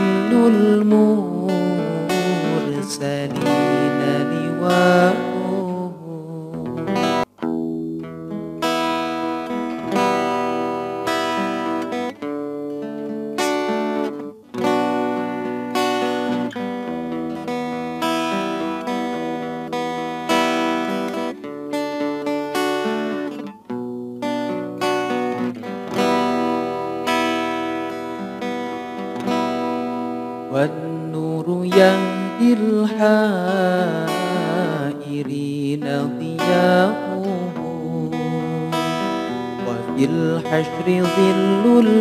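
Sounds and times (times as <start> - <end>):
acoustic guitar strumming chords: 0.0 - 42.0.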